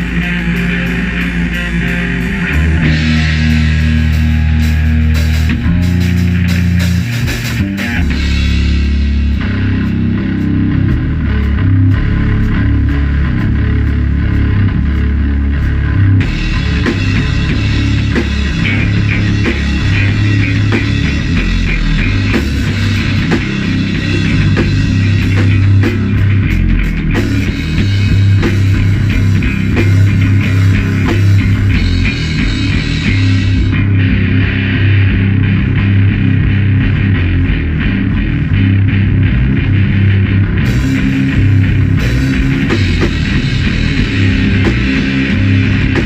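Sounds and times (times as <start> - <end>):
bass guitar: 0.0 - 46.0
distorted electric guitar: 0.0 - 46.0
drum kit: 0.0 - 46.0.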